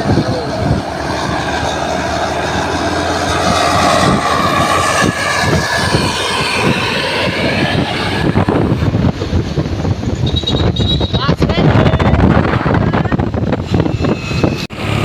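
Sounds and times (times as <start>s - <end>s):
bus engine rumble: 0.0s - 15.0s
wind buffeting microphone: 0.0s - 15.0s.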